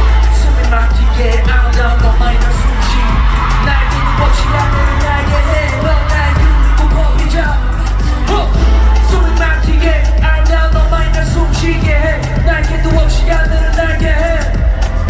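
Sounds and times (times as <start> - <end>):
heavy bass beat: 0.0 - 15.0
hip-hop pop music over speakers: 0.0 - 15.0
person singing: 0.0 - 15.0.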